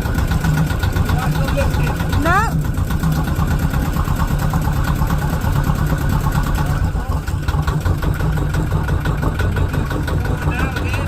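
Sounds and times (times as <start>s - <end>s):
marine diesel engine running: 0.0s - 11.0s.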